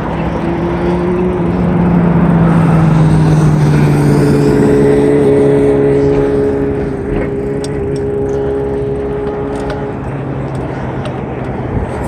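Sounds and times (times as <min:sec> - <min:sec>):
vehicle engine and tyre hum: 0:00.0 - 0:12.0.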